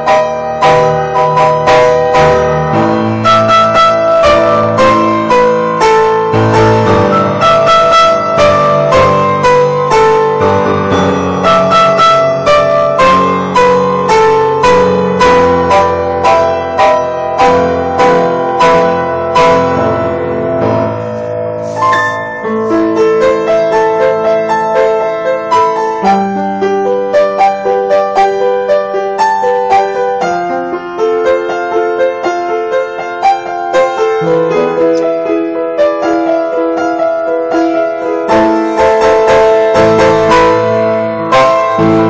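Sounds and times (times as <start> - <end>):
piano playing: 0.0 - 42.0.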